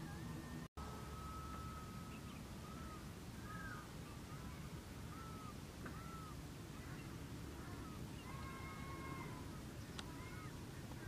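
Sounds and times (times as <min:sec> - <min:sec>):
birds calling: 0:00.0 - 0:11.0
low background noise: 0:00.0 - 0:11.0.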